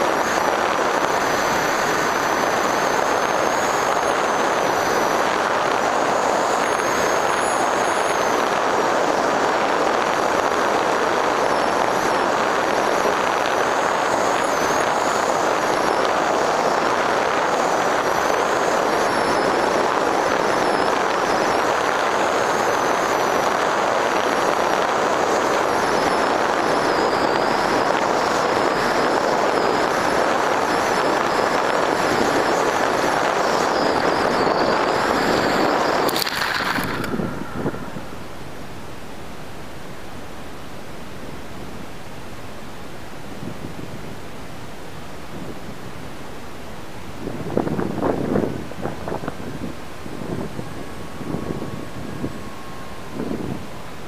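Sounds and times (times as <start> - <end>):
high electric motor whine: 0.0 - 54.0
propeller and airflow rush: 0.0 - 54.0.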